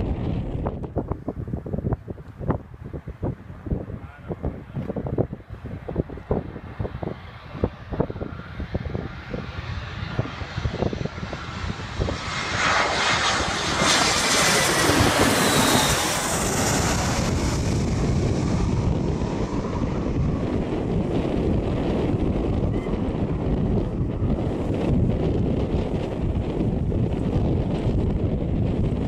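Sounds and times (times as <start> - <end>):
jet airliner passing overhead: 0.0 - 29.0
wind buffeting microphone: 0.0 - 29.0.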